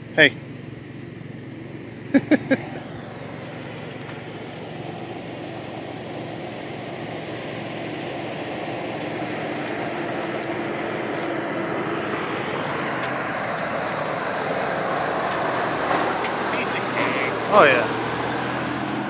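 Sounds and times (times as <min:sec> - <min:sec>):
engine working under load: 0:00.0 - 0:19.0.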